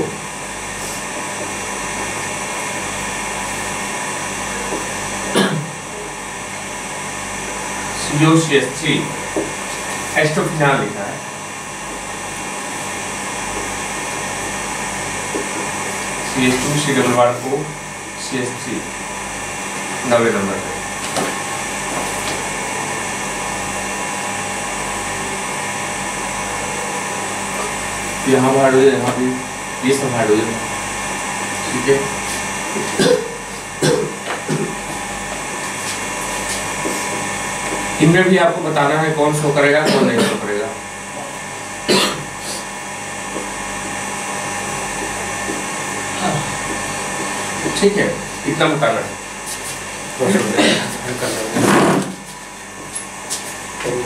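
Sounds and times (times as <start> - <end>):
machine hum and hiss: 0.0 - 54.0.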